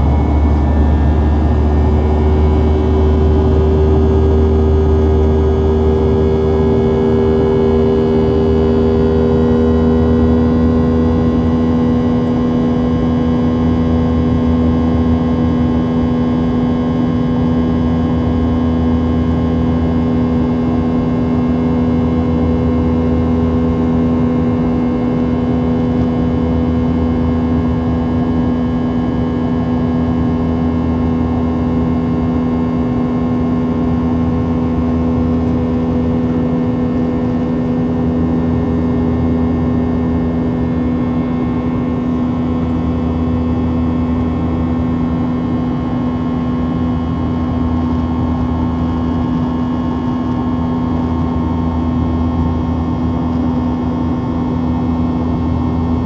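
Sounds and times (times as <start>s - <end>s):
faint steady whining tones: 0.0s - 56.0s
jet engine drone: 0.0s - 56.0s.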